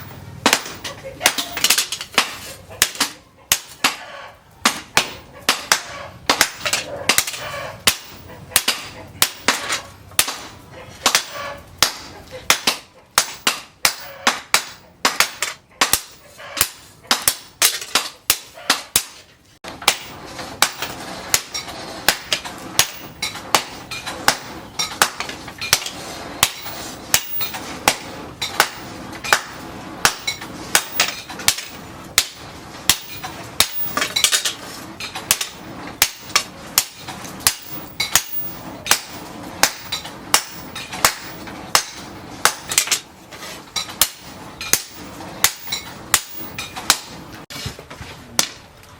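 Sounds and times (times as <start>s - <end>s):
hammer striking steel on anvil: 0.0s - 43.1s, 43.8s - 47.3s.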